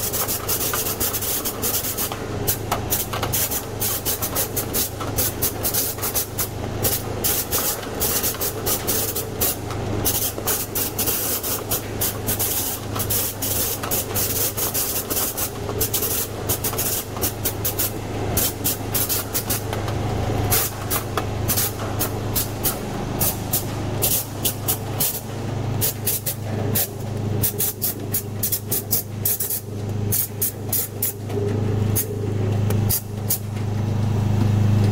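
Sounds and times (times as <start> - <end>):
motor hum: 4.7 - 34.9.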